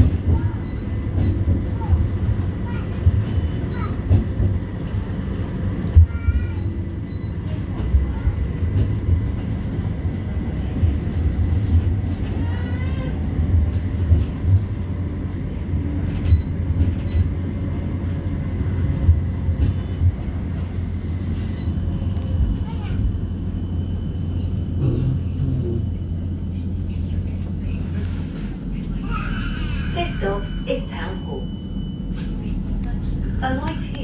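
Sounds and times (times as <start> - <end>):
tram wheels rumbling on rail: 0.0 - 34.0.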